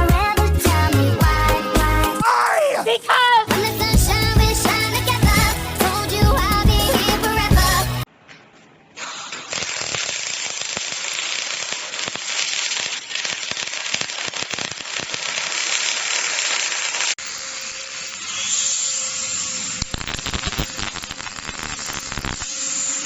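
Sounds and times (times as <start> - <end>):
welding arc crackling and hissing: 3.5 - 8.0, 9.0 - 23.0.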